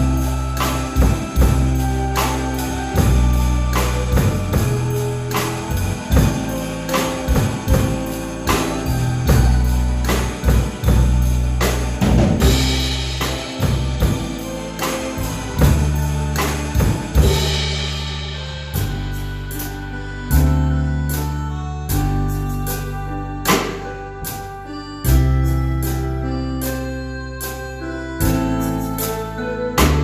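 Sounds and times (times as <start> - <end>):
drum kit steady beat: 0.0 - 26.8, 28.2 - 30.0
ballad backing track: 0.0 - 30.0
held bass line: 0.0 - 30.0.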